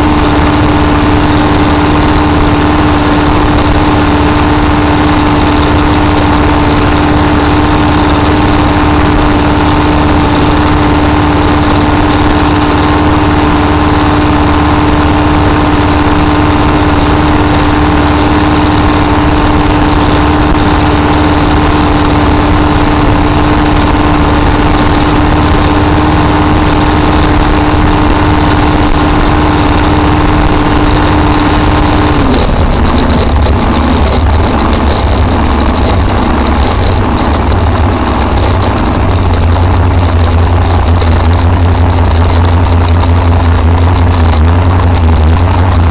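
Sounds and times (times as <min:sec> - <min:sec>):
boat engine running hard: 0:00.0 - 0:45.9.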